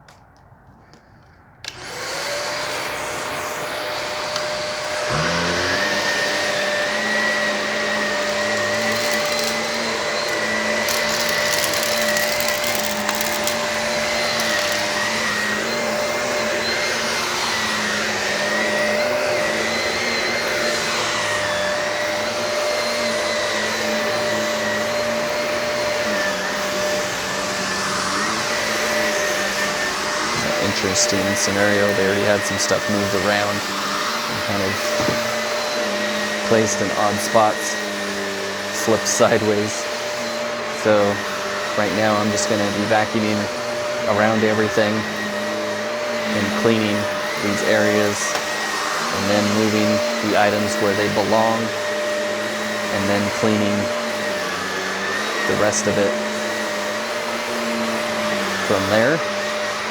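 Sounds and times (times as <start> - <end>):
vacuum cleaner whining on carpet: 0.1 - 59.9.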